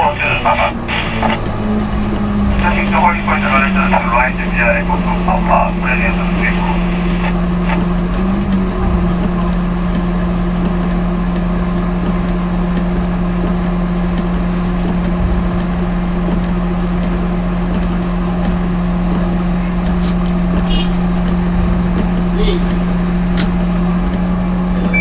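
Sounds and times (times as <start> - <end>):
towing tractor engine humming: 0.0 - 25.0.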